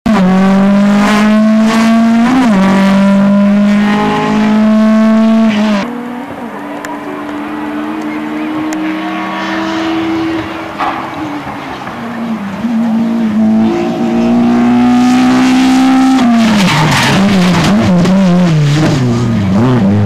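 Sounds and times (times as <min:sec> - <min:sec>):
rally car engine accelerating: 0:00.1 - 0:20.0.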